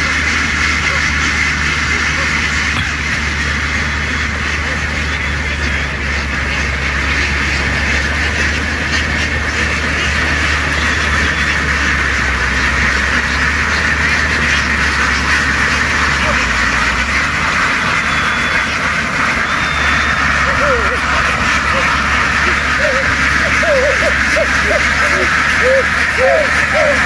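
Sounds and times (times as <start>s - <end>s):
boat engine hum: 0.0s - 27.0s
flock of ducks quacking: 0.0s - 27.0s.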